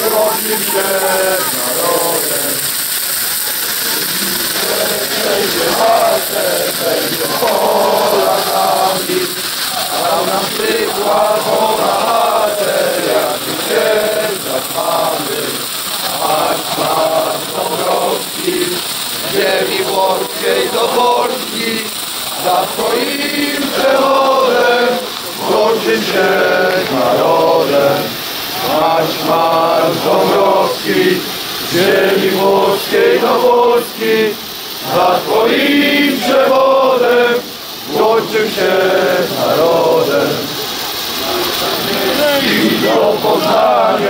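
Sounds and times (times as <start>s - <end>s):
men singing in unison: 0.0s - 44.0s.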